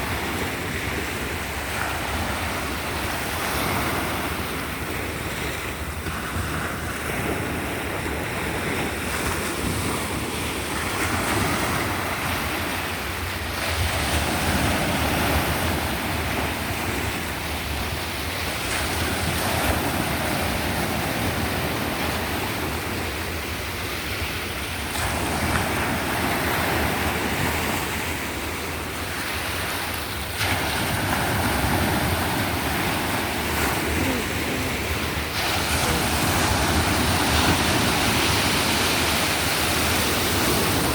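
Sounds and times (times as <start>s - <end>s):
waves breaking on shore: 0.0s - 40.9s
wind on microphone: 0.0s - 40.9s.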